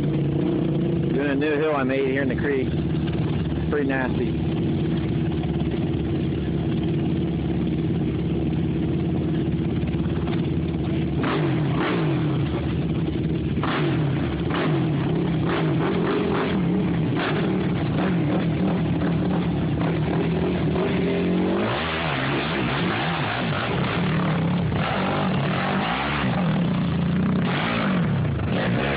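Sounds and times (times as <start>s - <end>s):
atv engine revving: 0.0s - 28.9s.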